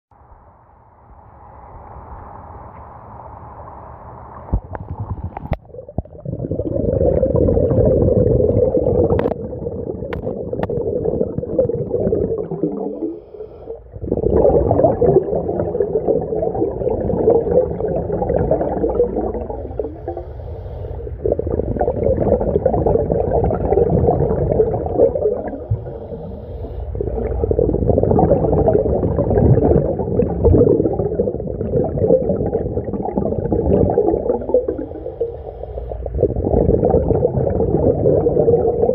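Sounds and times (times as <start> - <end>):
bubbling exhaled air underwater: 4.4 - 38.9.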